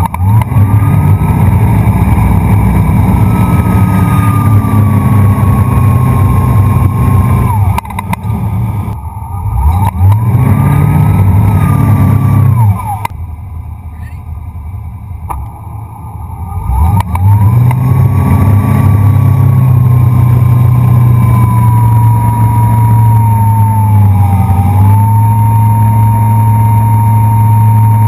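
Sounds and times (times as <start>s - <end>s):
boat engine revving: 0.0s - 28.0s.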